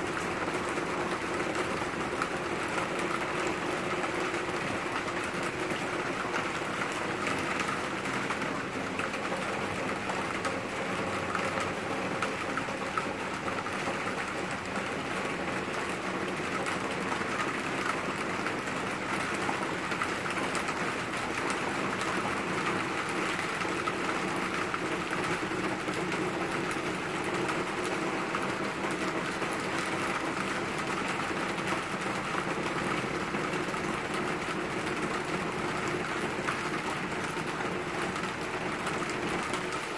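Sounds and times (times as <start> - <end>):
steady rain on trees: 0.0 - 39.9.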